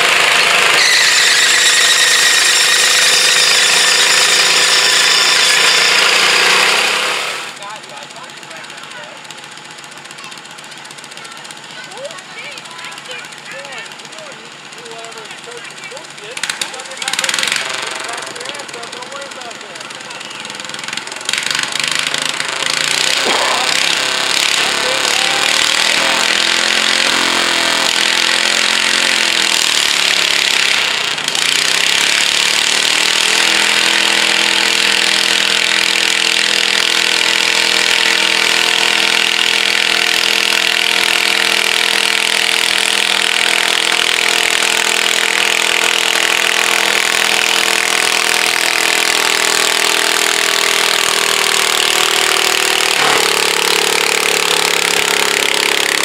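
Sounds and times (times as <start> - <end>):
garden tractor engine revving: 0.0 - 56.0.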